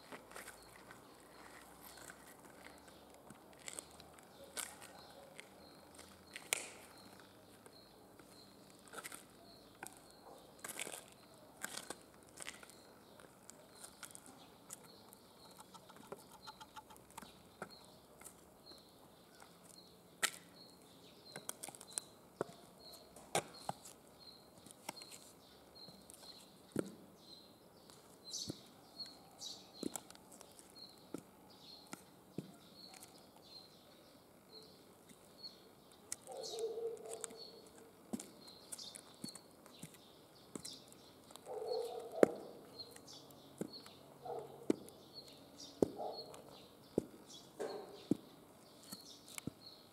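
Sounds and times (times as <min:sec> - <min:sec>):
high heels on gritty concrete: 0:00.0 - 0:27.0, 0:36.1 - 0:49.9
small bird chirping: 0:00.3 - 0:49.9.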